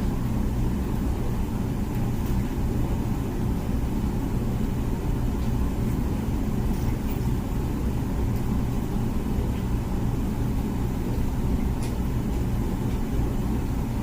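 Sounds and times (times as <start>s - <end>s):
dishwasher churning wash: 0.0s - 14.0s.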